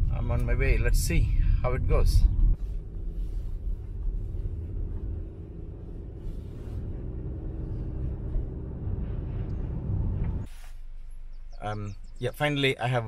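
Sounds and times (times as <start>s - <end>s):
car driving rumble inside cabin: 0.0s - 12.2s.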